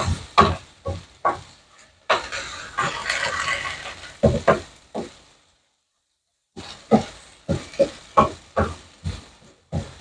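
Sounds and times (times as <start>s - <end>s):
spatula scraping and sizzling: 0.0s - 5.6s, 6.4s - 10.0s.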